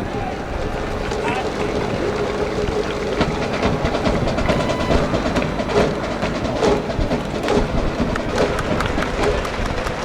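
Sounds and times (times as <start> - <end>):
clapping: 0.0 - 10.0
crowd cheering: 0.0 - 10.0
drums: 0.0 - 10.0
brass band playing: 0.5 - 8.9.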